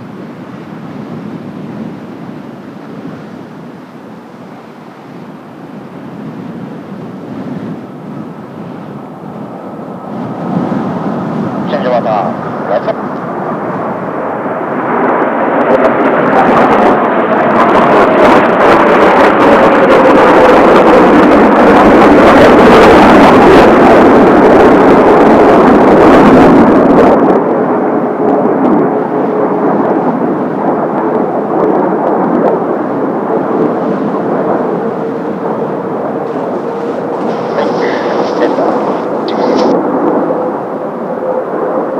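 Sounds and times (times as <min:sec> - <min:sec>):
jet engines passing: 0:00.0 - 0:41.9.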